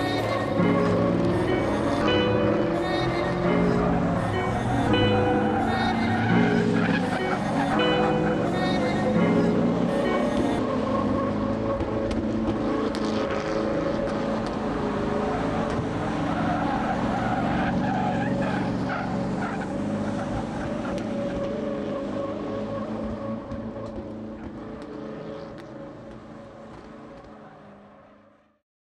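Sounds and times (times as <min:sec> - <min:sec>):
tyres skidding: 0:00.0 - 0:28.5
car engines running hard: 0:00.0 - 0:28.6.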